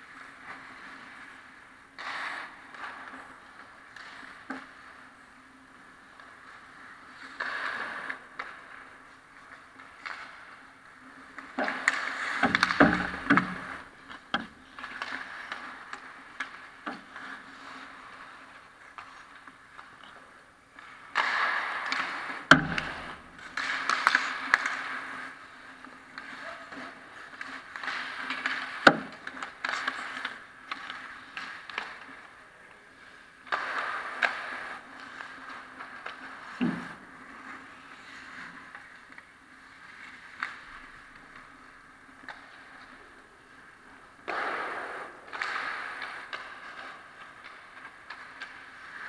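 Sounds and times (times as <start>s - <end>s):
hockey sticks and puck clacking: 0.0s - 49.0s
skate blades scraping ice: 0.0s - 49.0s.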